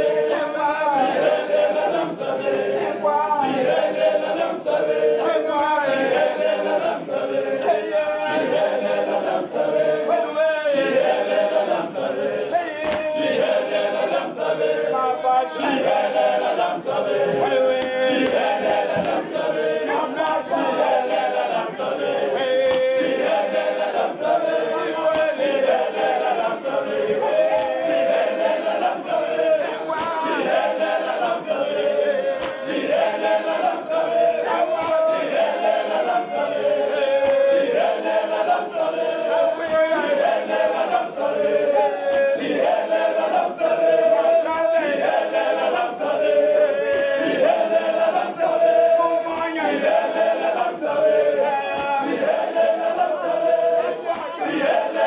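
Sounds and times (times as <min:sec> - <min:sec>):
male choir singing a cappella: 0:00.0 - 0:55.0.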